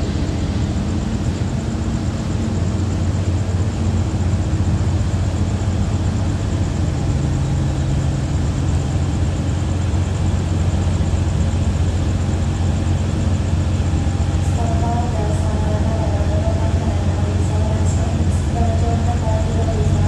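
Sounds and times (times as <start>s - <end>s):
diesel train engine droning: 0.0s - 20.0s.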